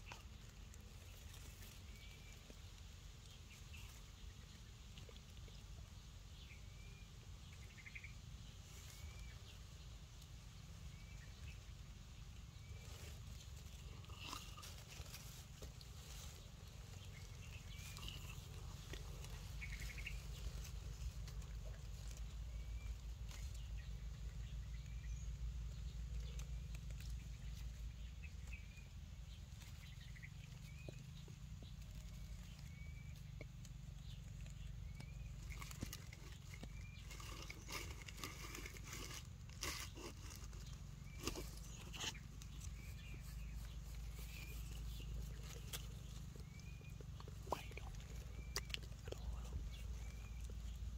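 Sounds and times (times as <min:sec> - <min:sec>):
steady low rumble: 0:00.0 - 0:50.9.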